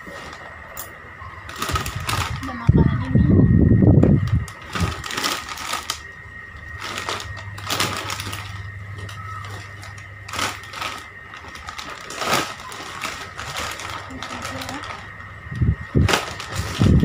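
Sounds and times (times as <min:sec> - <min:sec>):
plastic chip bags crackling: 0:00.0 - 0:00.7, 0:01.4 - 0:02.9, 0:04.1 - 0:17.0.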